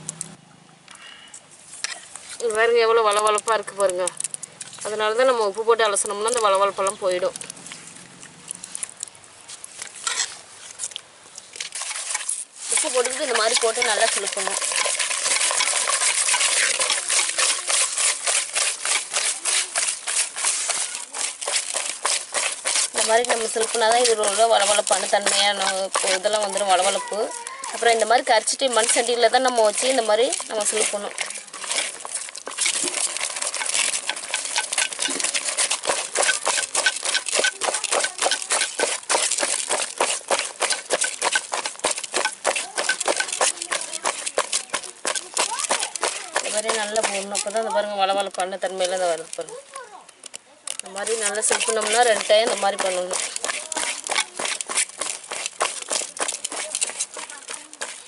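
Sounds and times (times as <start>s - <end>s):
wet scrubbing in clay pot: 1.6s - 49.9s, 50.7s - 58.0s.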